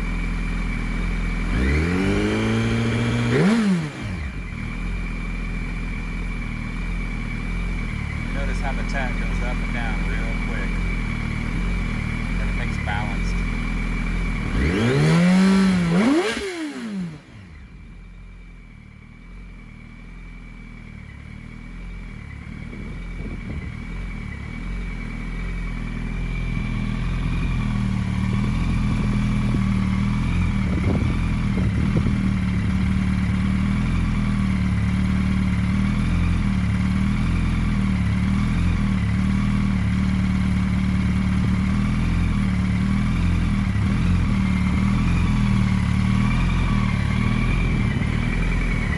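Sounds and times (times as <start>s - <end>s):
motorcycle engine idling: 0.0s - 48.9s
motorcycle engine revving: 0.0s - 48.9s.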